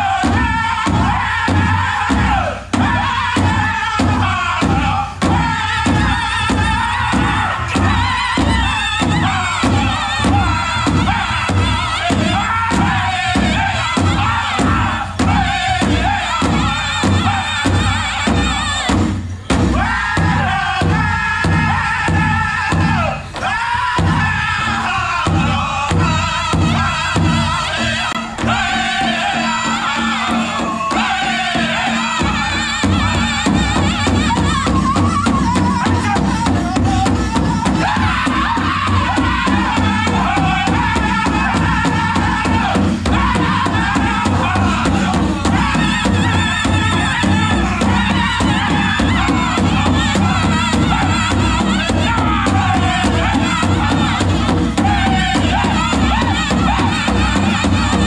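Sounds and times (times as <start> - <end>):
big drum beaten in unison: 0.0 - 58.0
drum group singing: 0.0 - 58.0.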